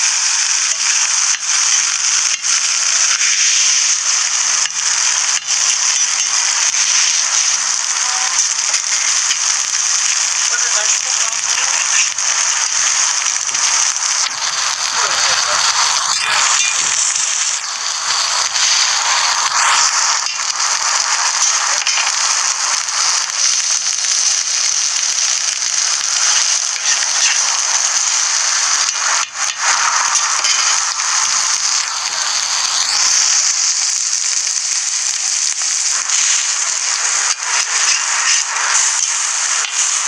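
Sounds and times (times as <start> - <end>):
food sizzling on a griddle: 0.0 - 40.0.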